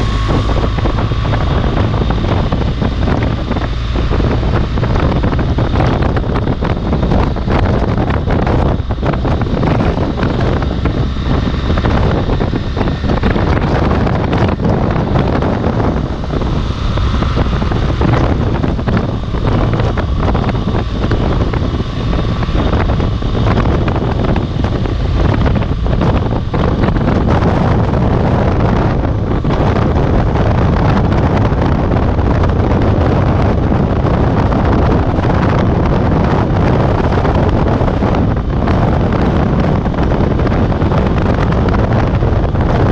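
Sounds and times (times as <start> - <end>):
motorcycle engine running: 0.0 - 42.9
tyres on dirt road: 0.0 - 42.9
wind buffeting microphone: 0.0 - 42.9.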